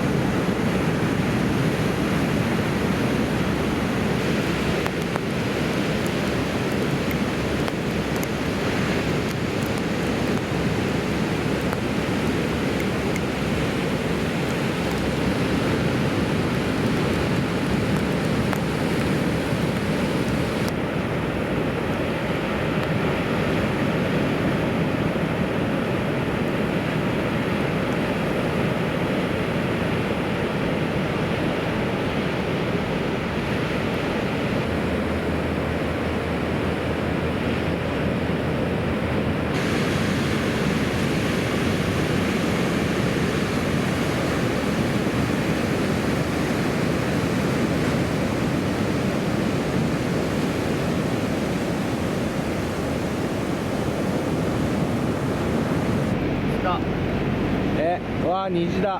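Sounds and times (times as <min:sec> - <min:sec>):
wind buffeting microphone: 0:00.0 - 0:22.7, 0:28.8 - 0:58.4
ocean surf breaking: 0:00.0 - 0:58.9.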